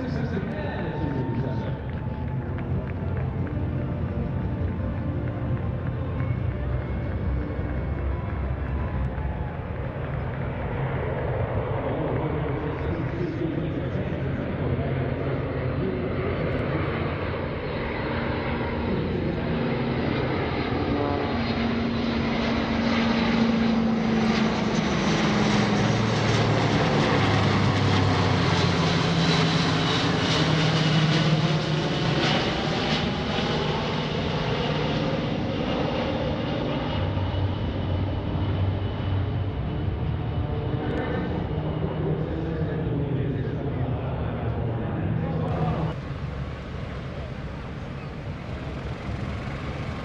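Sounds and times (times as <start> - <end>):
jet engines flying past: 0.0 - 50.0
piston engine aircraft flying past: 0.0 - 50.0.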